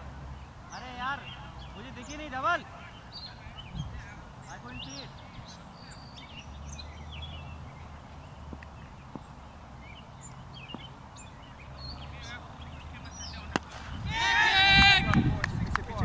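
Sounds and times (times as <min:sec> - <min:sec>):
birds chirping: 0:00.0 - 0:16.0
low outdoor hum: 0:00.0 - 0:16.0.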